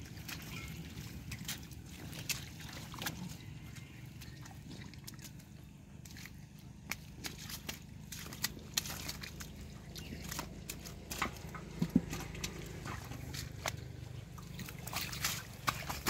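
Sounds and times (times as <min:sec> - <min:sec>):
wet slaps and squelches of fish: 0:00.1 - 0:16.0.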